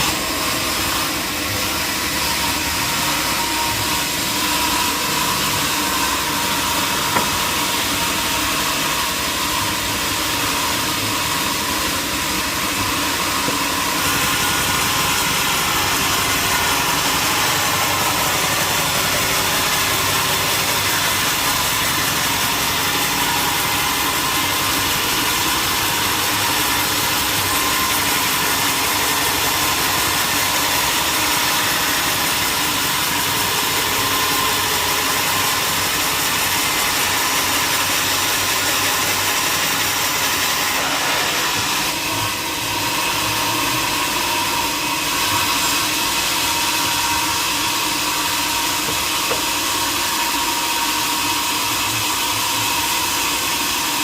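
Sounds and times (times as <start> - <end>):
sawmill machinery whine: 0.0 - 54.0.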